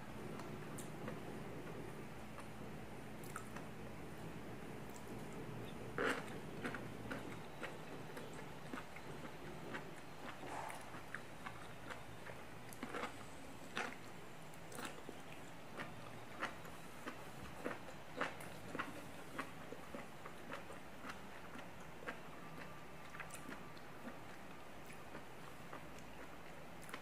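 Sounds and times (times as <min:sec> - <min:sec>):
biting and chewing food: 0:04.8 - 0:27.0.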